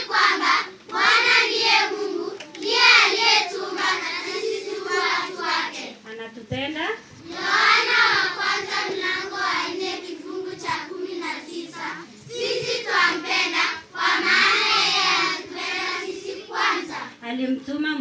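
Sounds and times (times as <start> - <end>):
girls singing in unison: 0.0 - 6.0, 7.2 - 17.2.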